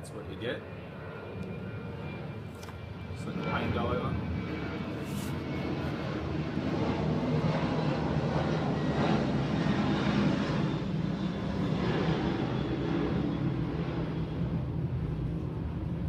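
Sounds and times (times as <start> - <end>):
aircraft engine rumble: 0.0 - 16.0.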